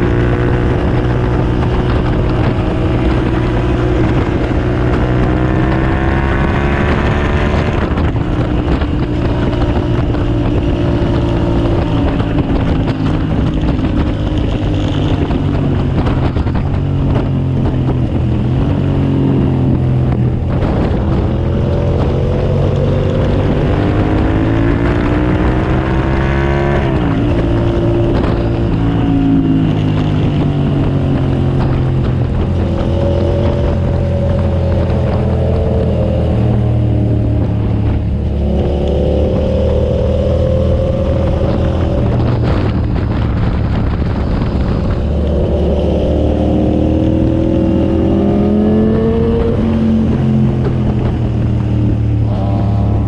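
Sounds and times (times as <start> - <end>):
motorcycle engine revving under load: 0.0 - 53.0.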